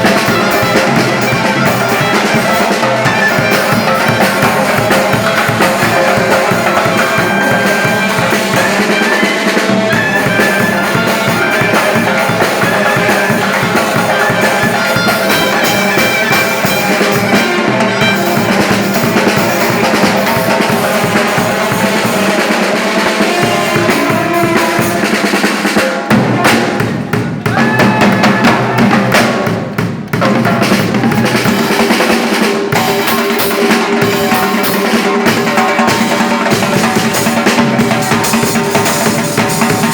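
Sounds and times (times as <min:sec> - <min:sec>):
drums beating: 0:00.0 - 0:39.9.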